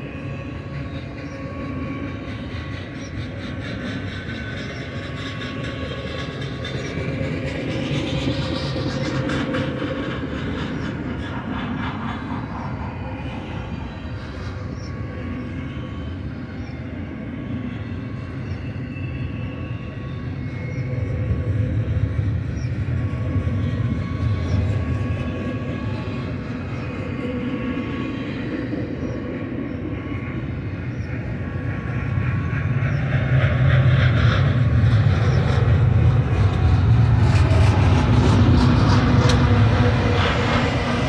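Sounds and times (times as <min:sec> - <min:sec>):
locomotive engine drone: 0:00.0 - 0:41.0
train wheels rumbling on rail: 0:00.0 - 0:41.0.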